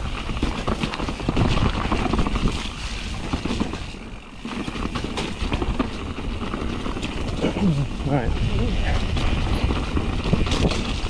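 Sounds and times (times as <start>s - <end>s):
bike rattling over bumps: 0.0s - 11.0s
bike tyres crunching on dirt: 0.0s - 11.0s
wind buffeting microphone: 0.0s - 11.0s.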